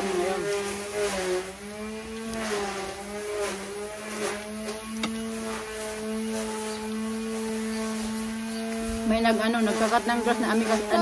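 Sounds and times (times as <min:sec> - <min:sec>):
lawn mower motor hum: 0:00.0 - 0:11.0.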